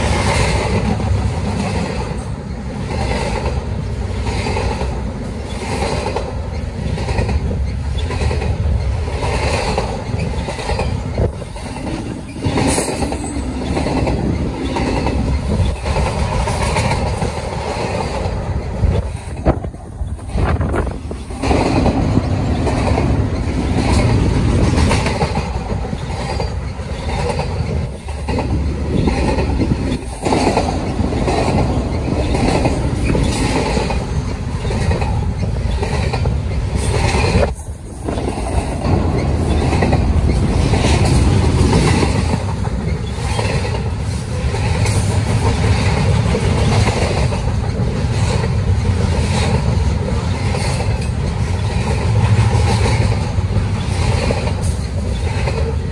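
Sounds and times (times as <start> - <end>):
freight train rumbling past: 0.0 - 55.9
wheels clickety-clack: 0.0 - 55.9.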